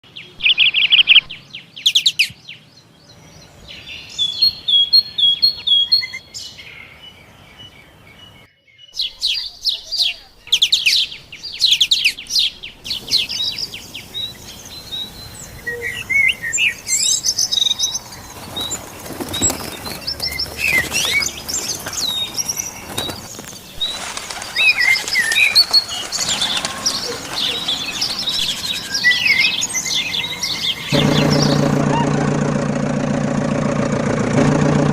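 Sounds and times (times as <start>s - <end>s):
small birds chirping: 0.1s - 32.1s.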